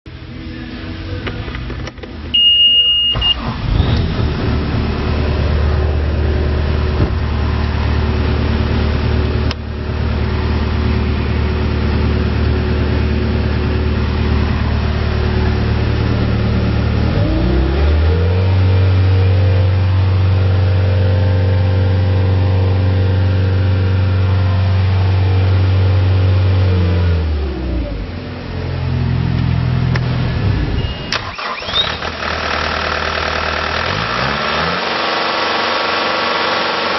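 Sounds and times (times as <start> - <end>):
diesel engine revving: 3.0 - 36.9.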